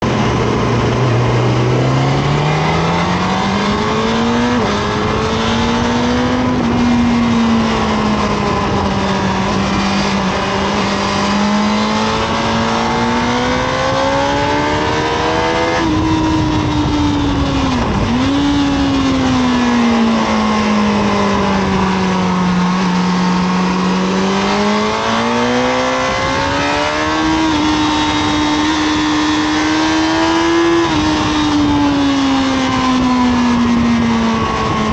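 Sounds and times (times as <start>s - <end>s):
motorcycle engine at speed: 0.0s - 34.9s
wind rush: 0.0s - 34.9s.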